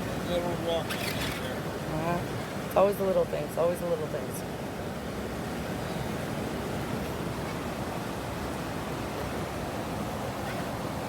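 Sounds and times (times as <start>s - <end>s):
river water rushing over falls: 0.0s - 11.0s.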